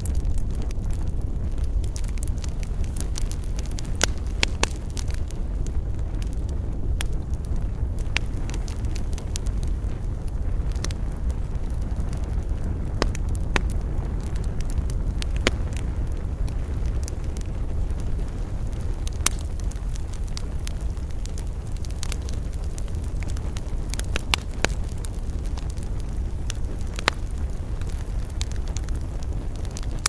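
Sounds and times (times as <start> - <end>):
burning wood crackling and popping: 0.0 - 30.0
low roar of flame: 0.0 - 30.0.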